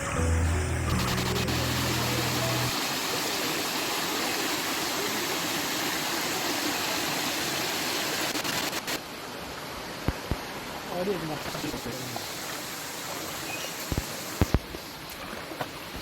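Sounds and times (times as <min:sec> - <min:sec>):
waterfall rushing over rocks: 0:00.0 - 0:14.9.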